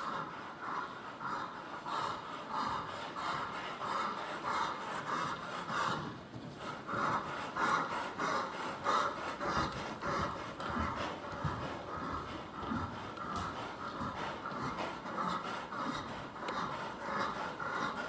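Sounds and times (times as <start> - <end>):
horse breathing hard: 0.0 - 18.0.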